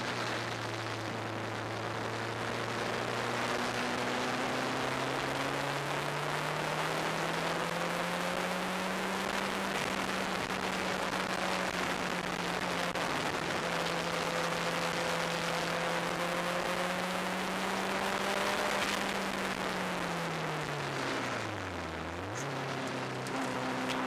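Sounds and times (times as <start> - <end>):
race car engine at speed: 0.0 - 24.0.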